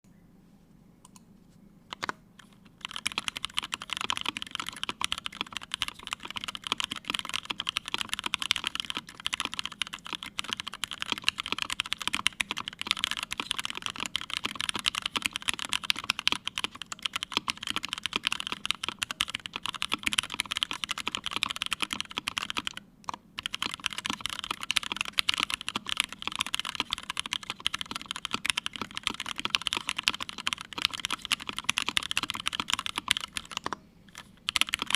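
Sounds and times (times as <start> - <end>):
mechanical keyboard typing: 1.9 - 34.9.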